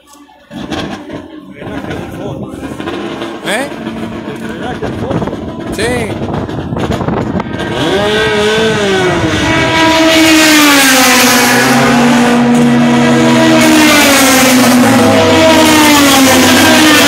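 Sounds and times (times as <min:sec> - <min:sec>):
race car engines at speed: 0:00.0 - 0:17.0.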